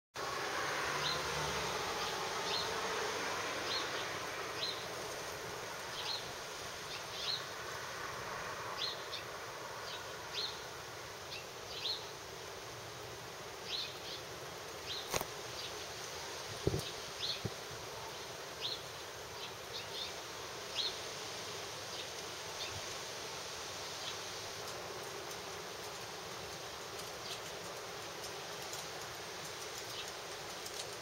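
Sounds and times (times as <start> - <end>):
outdoor hiss: 0.2 - 31.0.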